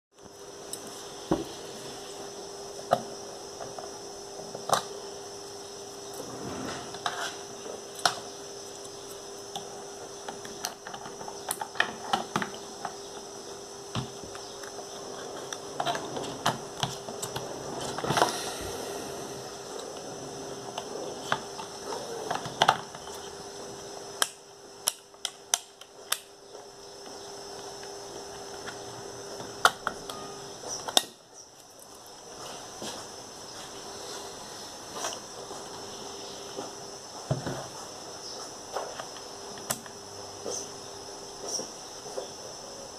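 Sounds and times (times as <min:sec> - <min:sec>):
faint steady hum: 0:00.2 - 0:42.9.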